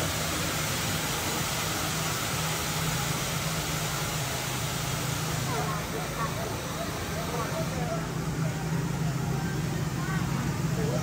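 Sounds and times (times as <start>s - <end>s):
fountain water splashing: 0.0s - 11.0s
ride mechanical hum: 0.0s - 11.0s.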